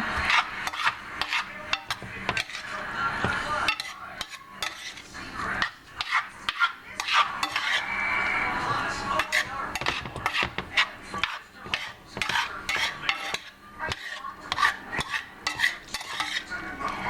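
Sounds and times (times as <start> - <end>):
vegetables sauteing in butter: 0.0 - 16.5
utensil clinking and scraping pan: 0.0 - 17.0.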